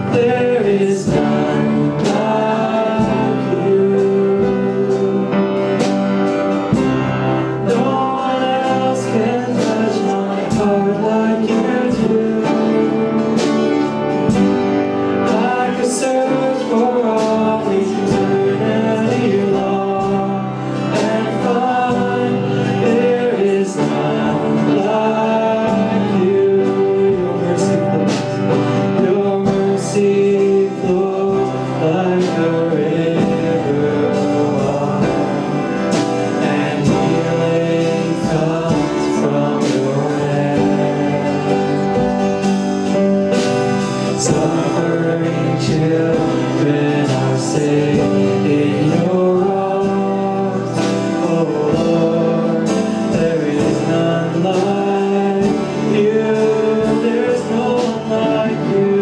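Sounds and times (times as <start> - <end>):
person singing: 0.0 - 59.0
worship band playing: 0.0 - 59.0.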